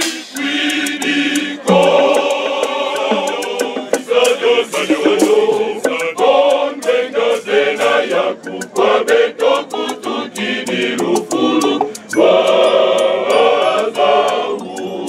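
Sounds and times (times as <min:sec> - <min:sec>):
men's choir singing: 0:00.0 - 0:15.0.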